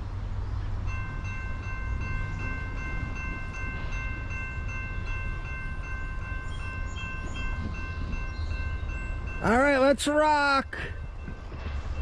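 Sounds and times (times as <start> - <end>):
crossing warning bell ringing: 0.7 - 12.0.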